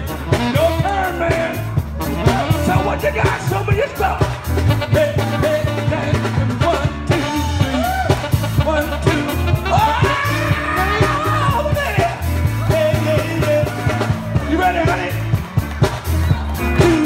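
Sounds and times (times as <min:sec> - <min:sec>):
person singing: 0:00.0 - 0:15.2
live soul band playing: 0:00.0 - 0:17.0.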